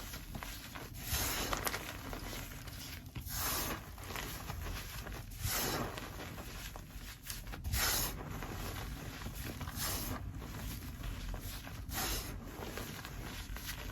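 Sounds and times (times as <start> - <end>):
chalk and sand crumbly crackling: 0.0 - 13.9.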